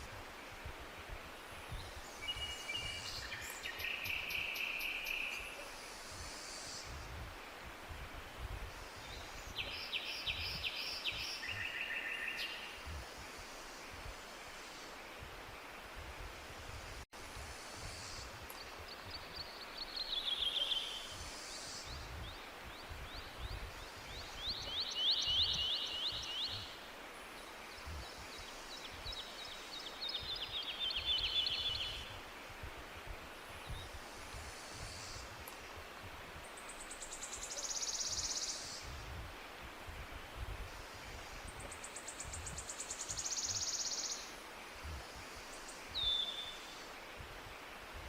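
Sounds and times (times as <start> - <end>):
outdoor hiss: 0.0 - 48.0.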